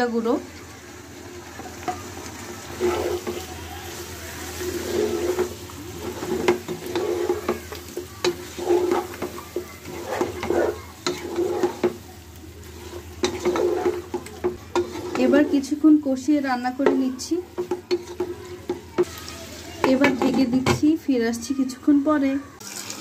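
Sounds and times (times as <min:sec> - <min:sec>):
frying sizzle: 0:00.0 - 0:23.0
spatula scraping a pan: 0:01.2 - 0:20.9.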